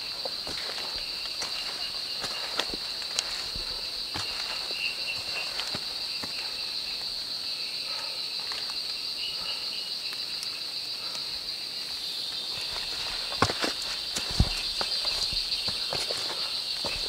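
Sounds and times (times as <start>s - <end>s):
faint footsteps on trail: 0.0s - 17.0s
insects chirring: 0.0s - 17.0s.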